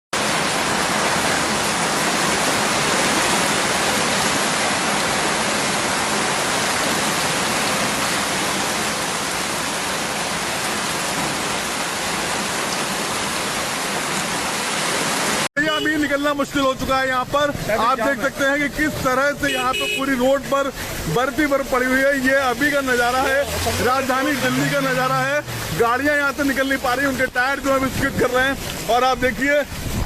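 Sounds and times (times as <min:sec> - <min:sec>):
hail and rain falling hard: 0:00.2 - 0:15.5, 0:20.7 - 0:29.9.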